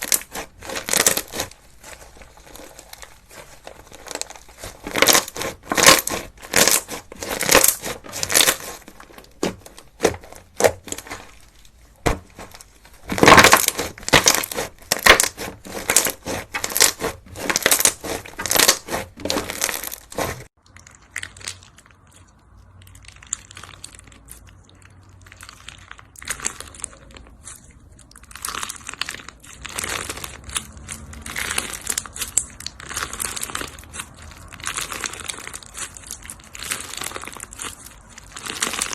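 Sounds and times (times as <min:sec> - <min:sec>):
crunchy slime crackling: 0:00.0 - 0:38.9.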